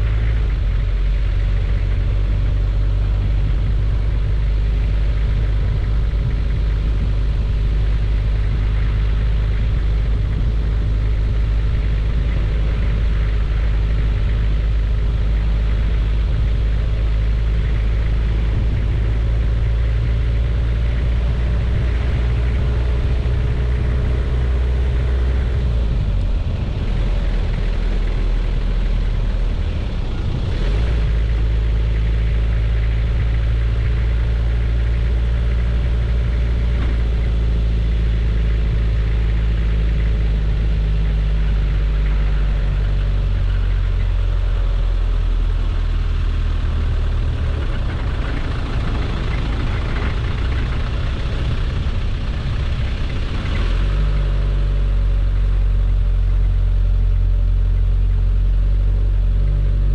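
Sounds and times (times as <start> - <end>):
diesel engine droning at cruise: 0.0 - 59.9
tyre noise on dirt road: 0.0 - 59.9.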